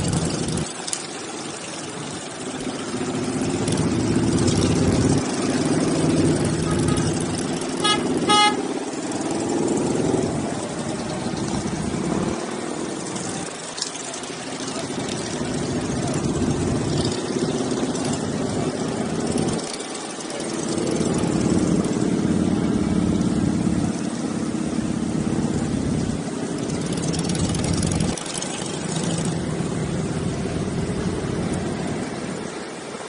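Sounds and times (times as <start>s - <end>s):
motorcycle engines running: 0.0s - 33.0s.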